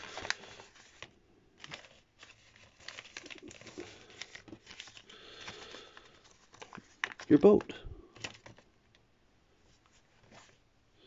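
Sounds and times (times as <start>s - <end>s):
paper rustling and crinkling: 0.0s - 8.7s, 9.7s - 10.6s.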